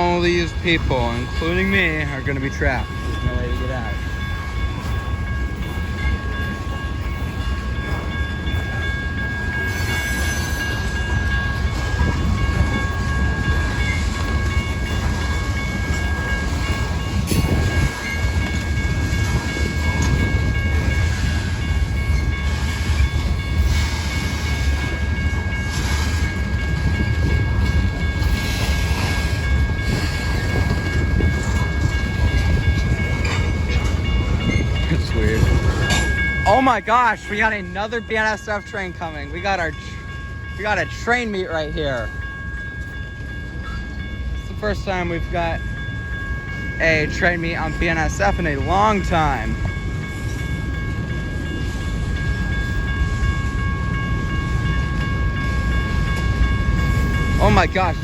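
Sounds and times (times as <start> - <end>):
railcars rumbling and clattering: 0.0 - 58.0.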